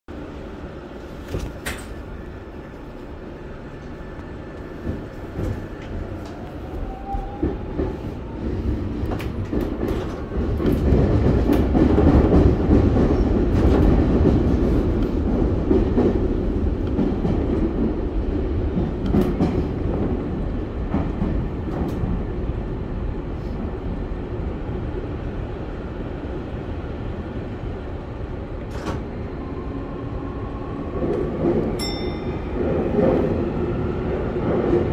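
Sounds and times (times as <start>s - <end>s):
train rumble in tunnel: 0.1s - 34.9s.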